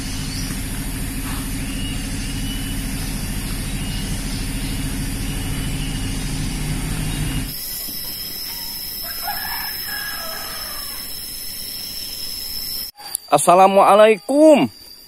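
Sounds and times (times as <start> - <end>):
small motorcycle engine running: 0.0 - 12.9.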